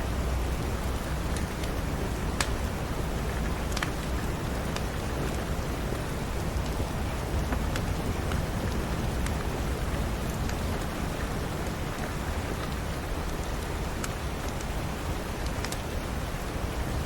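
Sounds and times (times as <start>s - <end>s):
steady rain: 0.0s - 17.0s
wood fire pops and crackles: 0.3s - 16.6s.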